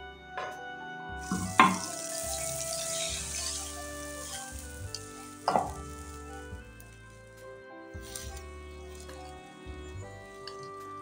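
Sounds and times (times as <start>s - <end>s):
faint background music: 0.0s - 11.0s
water hissing in hot butter: 1.2s - 11.0s.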